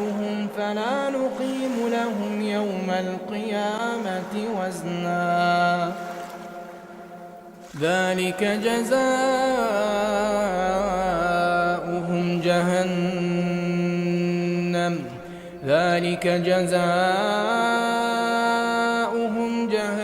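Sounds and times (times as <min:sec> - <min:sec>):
man chanting recitation: 0:00.0 - 0:06.4, 0:07.7 - 0:20.0.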